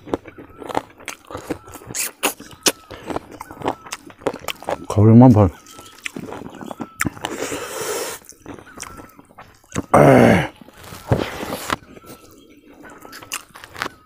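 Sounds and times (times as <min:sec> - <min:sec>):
wet smacking and chewing: 0:00.0 - 0:14.0.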